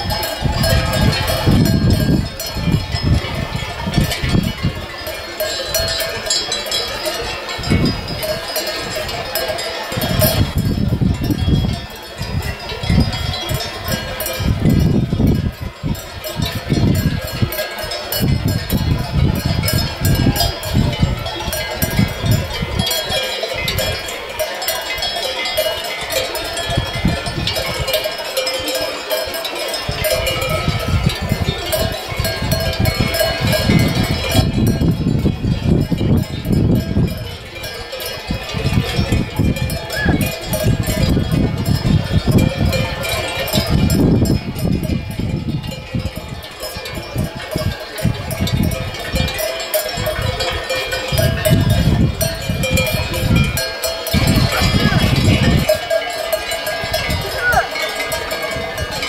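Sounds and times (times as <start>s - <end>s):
sheep bells clanking: 0.0s - 59.0s
wind rumble on microphone: 0.0s - 59.0s.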